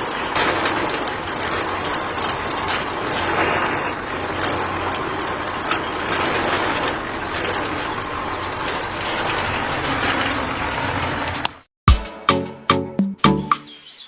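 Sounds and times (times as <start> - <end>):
rattle of clicks: 0.0 - 11.6
small motor and gears humming: 0.0 - 11.6.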